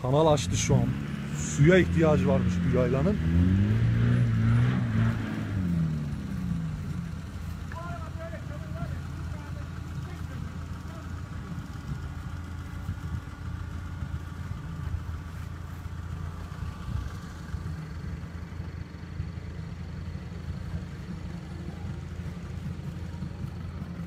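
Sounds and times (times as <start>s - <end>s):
distant engine idling: 0.0s - 24.0s.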